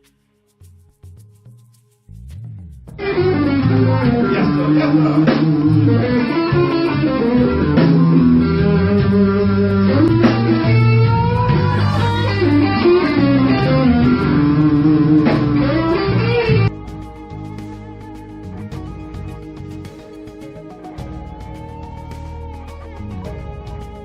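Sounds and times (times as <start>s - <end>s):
bass line: 1.3s - 24.0s
electric guitar music: 2.9s - 24.0s.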